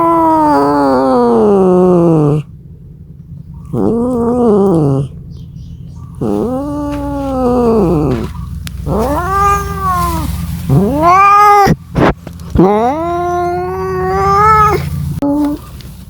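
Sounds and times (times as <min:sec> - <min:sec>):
cat yowling: 0:00.0 - 0:02.5, 0:03.7 - 0:05.2, 0:06.2 - 0:15.7
steady low hum: 0:00.0 - 0:16.0.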